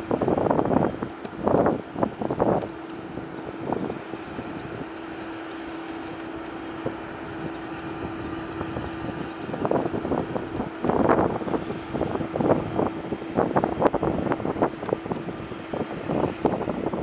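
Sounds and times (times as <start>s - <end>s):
jet engine hum: 0.0s - 17.0s
wind gust on microphone: 0.0s - 17.0s.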